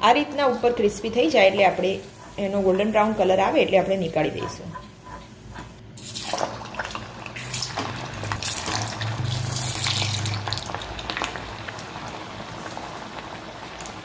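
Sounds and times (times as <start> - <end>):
oil sizzling and crackling: 0.1 - 14.0.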